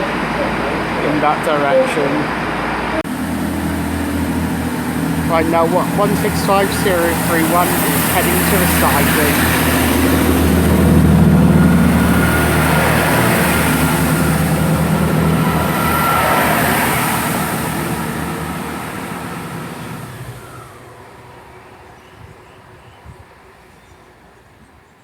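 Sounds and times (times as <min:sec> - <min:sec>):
diesel train pulling away: 0:00.0 - 0:25.0.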